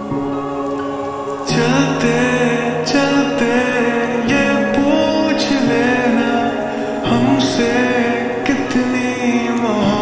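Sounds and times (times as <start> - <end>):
slowed reverb-heavy lofi pop song: 0.0 - 10.0.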